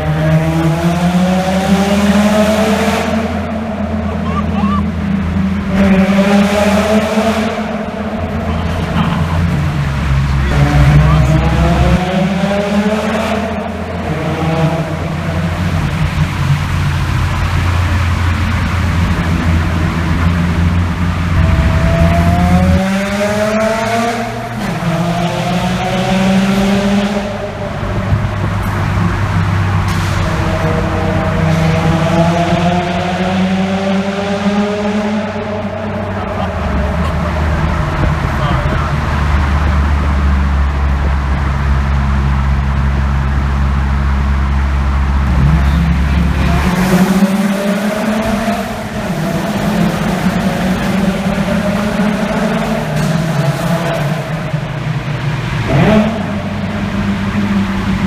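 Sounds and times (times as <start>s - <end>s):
rotary engine accelerating hard: 0.0s - 58.0s.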